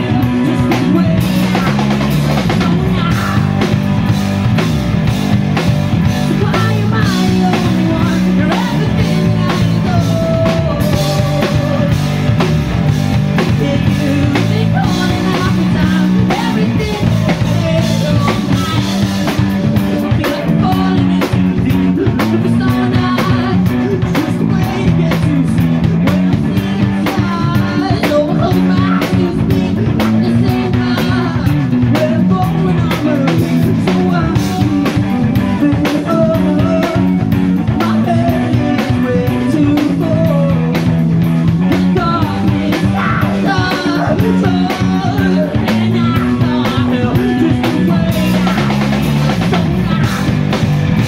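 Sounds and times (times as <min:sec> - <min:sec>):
bass guitar: 0:00.0 - 0:51.0
drum kit beat: 0:00.0 - 0:51.0
electric guitar: 0:00.0 - 0:51.0
male lead singer: 0:00.0 - 0:51.0.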